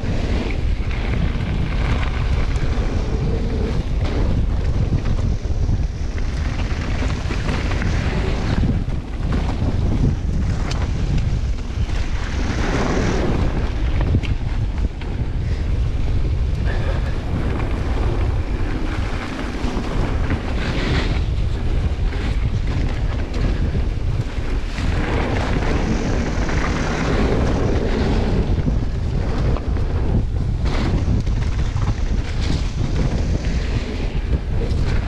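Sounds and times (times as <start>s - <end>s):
bike knocks and rattles: 0.0s - 35.0s
bike tyre noise on dirt: 0.0s - 35.0s
wind buffeting microphone: 0.0s - 35.0s.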